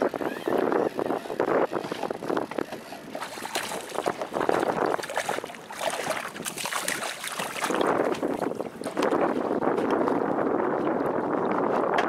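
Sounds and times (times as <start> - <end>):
wind buffeting microphone: 0.0 - 12.0
waves lapping against boat: 0.1 - 12.0.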